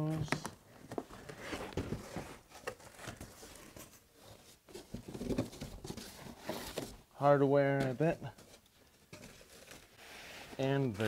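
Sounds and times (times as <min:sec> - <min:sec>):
cardboard and wrapping rustling: 0:00.0 - 0:11.0.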